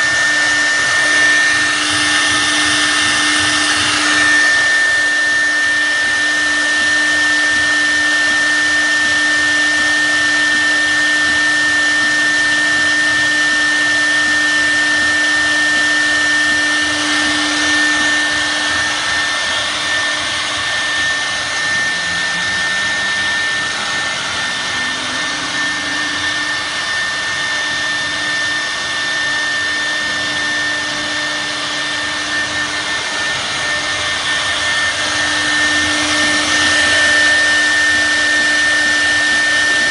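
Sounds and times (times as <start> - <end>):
router spindle high whine: 0.0 - 39.9
wood cutting noise: 0.0 - 39.9.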